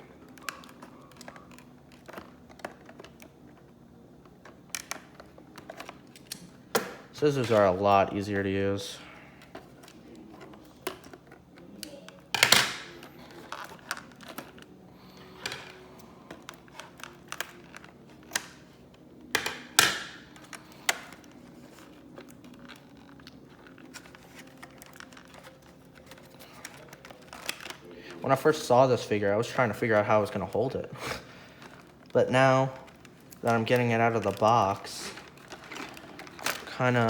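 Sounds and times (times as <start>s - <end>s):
scissors snipping packaging: 0.1s - 7.8s, 9.4s - 28.3s, 31.2s - 37.0s.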